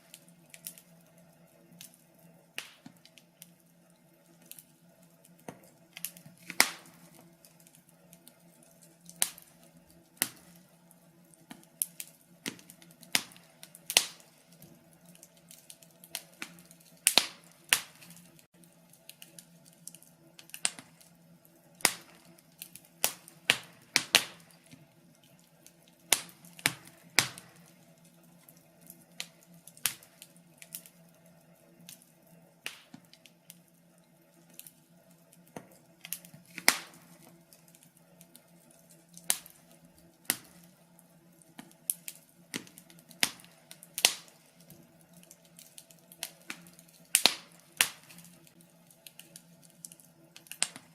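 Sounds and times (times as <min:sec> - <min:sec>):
faint steady hum: 0:00.0 - 0:50.9
wood fire crackling: 0:00.0 - 0:50.9.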